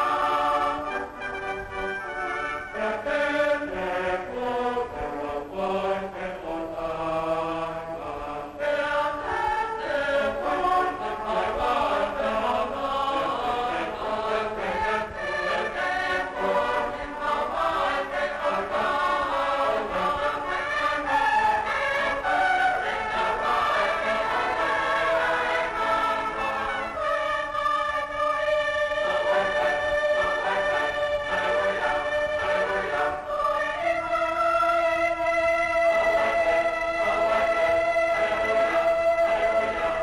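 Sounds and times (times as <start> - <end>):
choir chanting sustained chords: 0.0 - 40.0.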